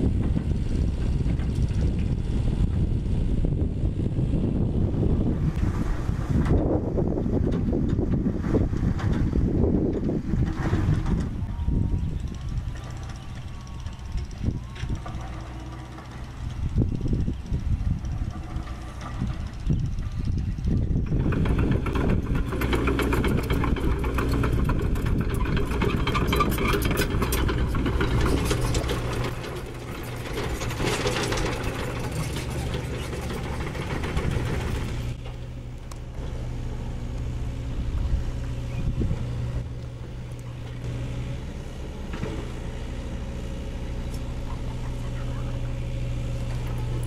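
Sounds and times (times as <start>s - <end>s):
excavator diesel engine: 0.0s - 47.0s.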